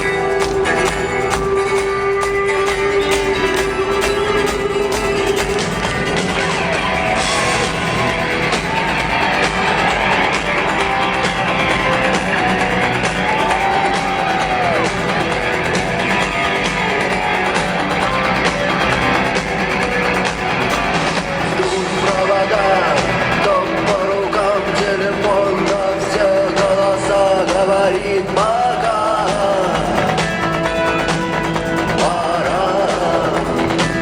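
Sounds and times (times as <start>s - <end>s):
drums: 0.0s - 34.0s
electric guitars: 0.0s - 34.0s.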